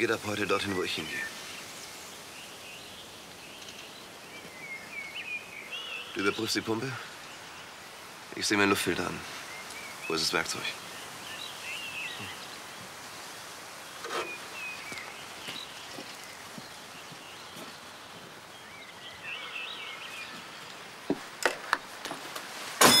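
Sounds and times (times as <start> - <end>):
birds chirping: 0.0 - 21.4
steady outdoor hiss: 0.0 - 23.0.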